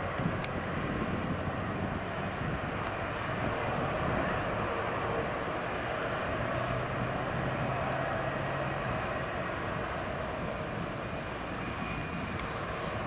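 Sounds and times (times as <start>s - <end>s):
jet engines running steadily: 0.0s - 13.0s.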